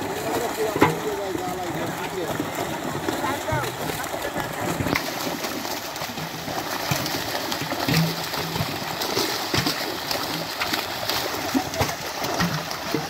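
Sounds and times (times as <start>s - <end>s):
churning water rushing: 0.0s - 13.0s
fish splashing: 0.0s - 13.0s.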